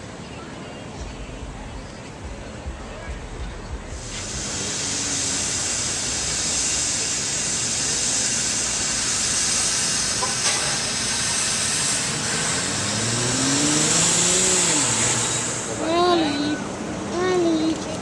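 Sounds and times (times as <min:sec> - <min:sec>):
loud steady hiss: 0:00.8 - 0:18.0.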